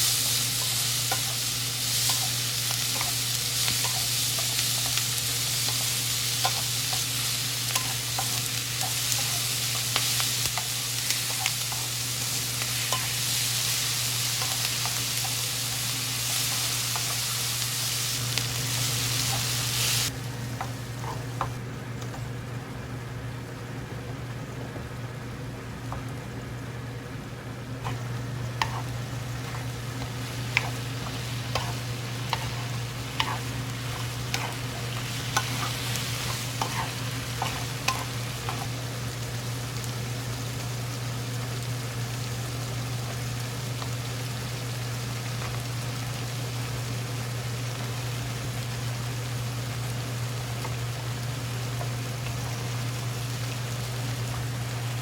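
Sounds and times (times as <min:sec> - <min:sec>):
food sizzling in a pan: 0:00.0 - 0:22.3, 0:27.7 - 0:55.0.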